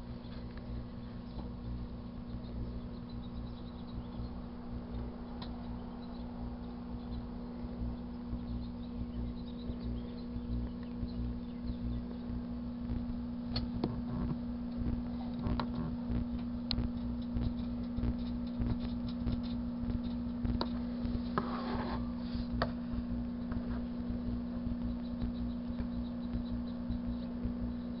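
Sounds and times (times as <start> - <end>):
sharp crackles and pops: 0.0 - 21.4, 22.5 - 28.0
microwave oven humming: 0.0 - 28.0.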